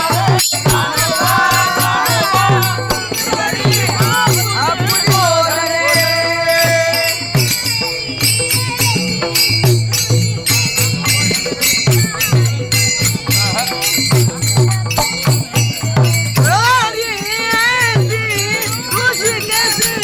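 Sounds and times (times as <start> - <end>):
low-pitched drum rhythm: 0.0 - 20.0
small hand cymbals clashing: 0.0 - 20.0.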